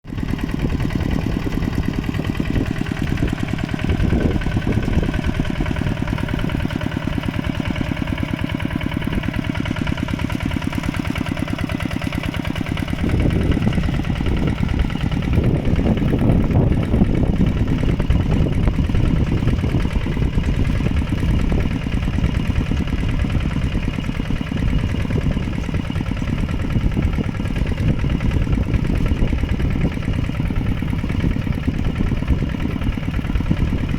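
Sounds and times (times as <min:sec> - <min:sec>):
tractor engine chugging: 0:00.1 - 0:33.9.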